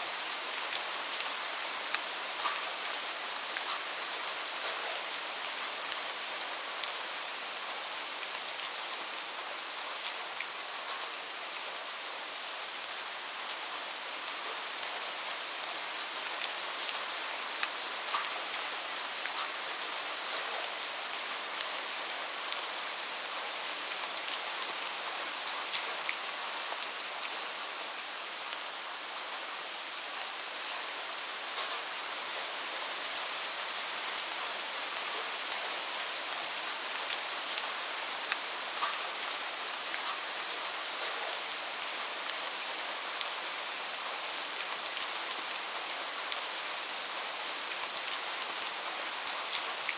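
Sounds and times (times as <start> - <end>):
steady rain hiss: 0.0 - 49.9
raindrops pattering close by: 0.1 - 11.6, 12.4 - 27.4, 31.4 - 49.9.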